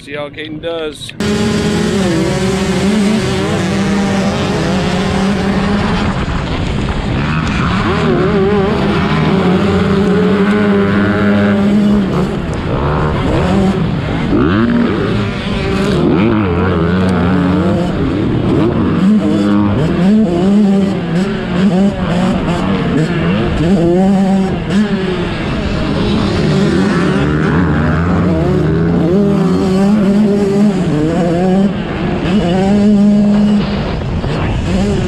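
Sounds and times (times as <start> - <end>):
motocross bikes racing: 1.1 - 35.0.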